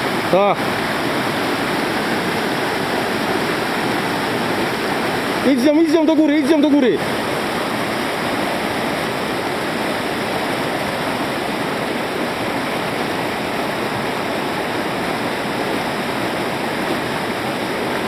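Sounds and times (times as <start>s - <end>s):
river rapids rushing: 0.0s - 18.0s.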